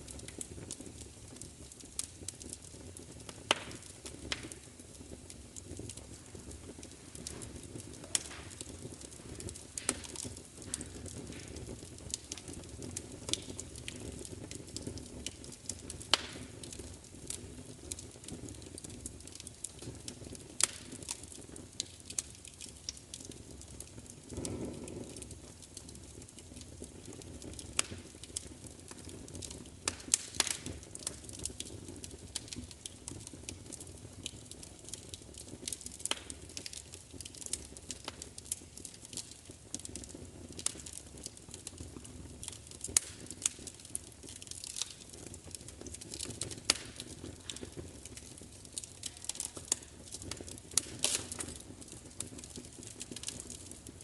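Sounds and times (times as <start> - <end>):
low steady hiss: 0.0 - 54.0
wood fire crackling: 0.0 - 54.0.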